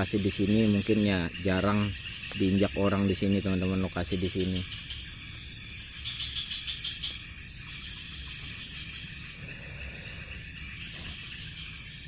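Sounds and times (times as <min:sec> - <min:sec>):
high-pitched insect buzz: 0:00.0 - 0:12.0
quick insect chirps: 0:00.0 - 0:12.0.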